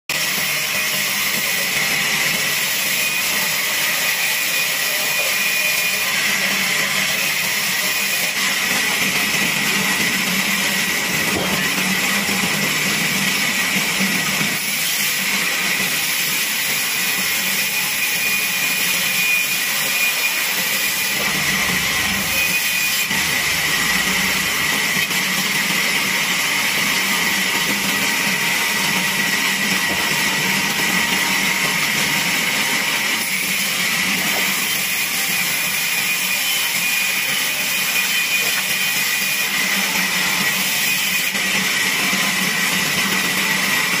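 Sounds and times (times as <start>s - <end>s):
band saw cutting wood: 0.1s - 44.0s.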